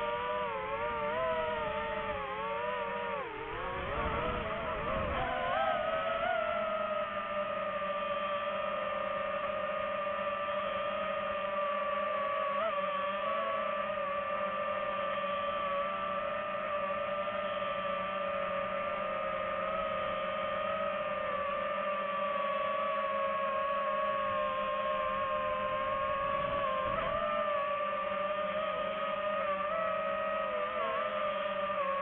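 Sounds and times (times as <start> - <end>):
drone propellers whining: 0.0 - 32.0.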